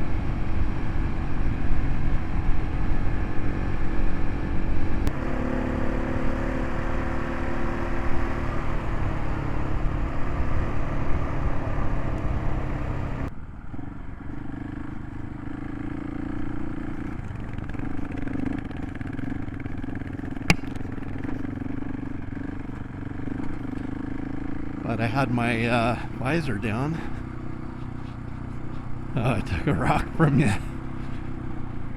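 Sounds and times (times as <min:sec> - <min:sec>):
motorcycle engine running: 0:00.0 - 0:31.9
wind and road noise: 0:00.0 - 0:31.9.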